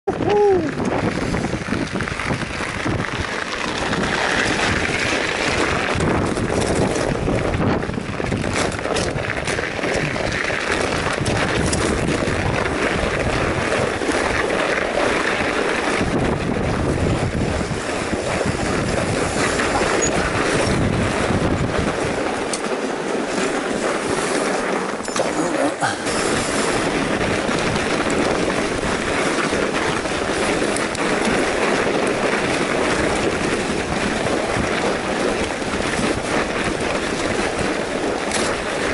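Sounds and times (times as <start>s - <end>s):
wind buffeting microphone: 0.1s - 38.9s
tyres rolling on snow: 0.4s - 38.9s.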